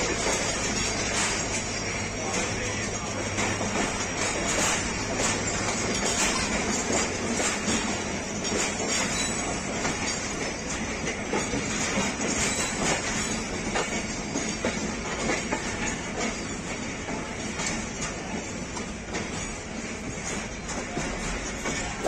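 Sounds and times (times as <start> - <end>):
train wheels rumbling on rail: 0.0 - 22.0
wheels clicking over rail joints: 0.0 - 22.0.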